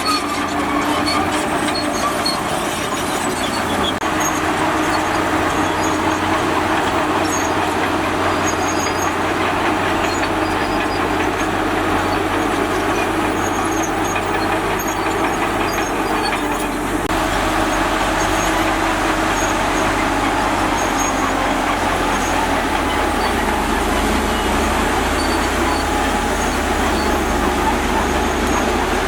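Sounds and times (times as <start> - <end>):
high squeaks and clicks: 0.0 - 17.1, 17.7 - 29.0
bulldozer engine running: 0.0 - 29.0.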